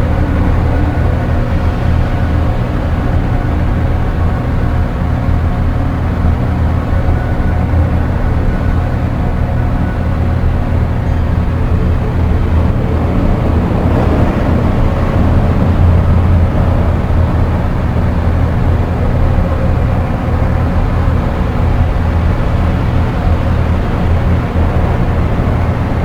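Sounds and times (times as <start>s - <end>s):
dark ambient drone music: 0.0s - 26.0s.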